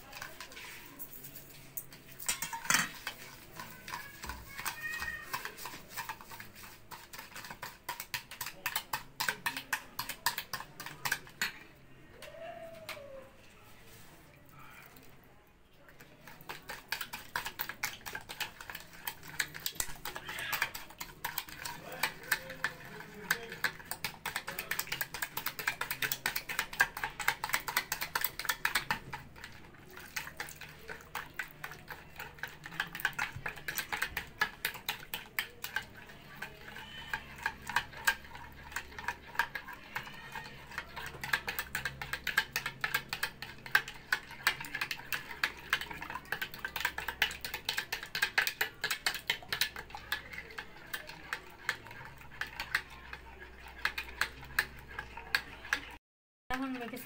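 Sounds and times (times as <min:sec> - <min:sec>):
whisk tapping against bowl: 0:00.0 - 0:13.1, 0:16.1 - 0:57.0.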